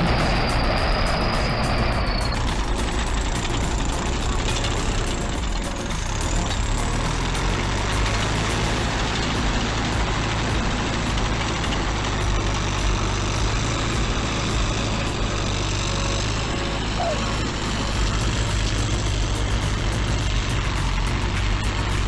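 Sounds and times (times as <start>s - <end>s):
diesel dozer engine running: 0.0s - 22.0s.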